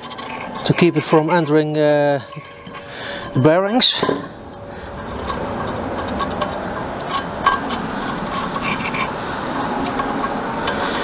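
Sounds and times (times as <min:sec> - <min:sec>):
brushing dirt off metal: 0:00.0 - 0:11.0.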